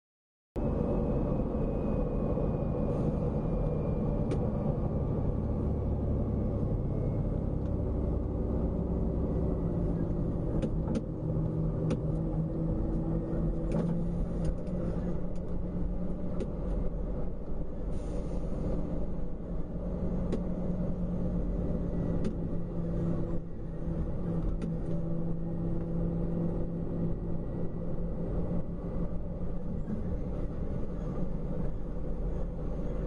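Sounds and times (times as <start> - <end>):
vehicle engine and tyre rumble: 0.6 - 33.0.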